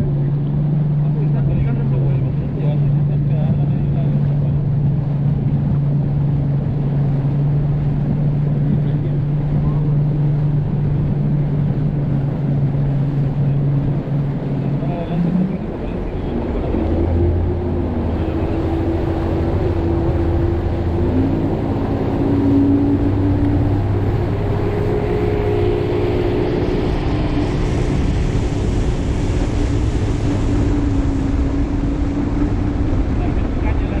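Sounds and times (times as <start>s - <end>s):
outboard motor running: 0.0s - 34.0s
wind and water rushing: 0.0s - 34.0s.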